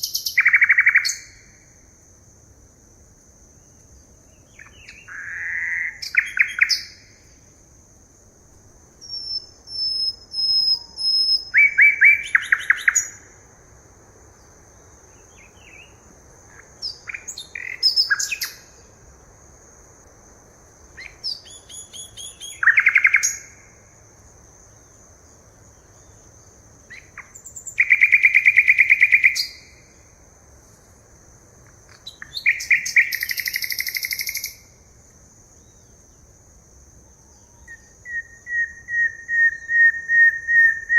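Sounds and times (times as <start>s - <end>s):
forest birds singing: 0.0s - 20.1s, 20.7s - 40.9s.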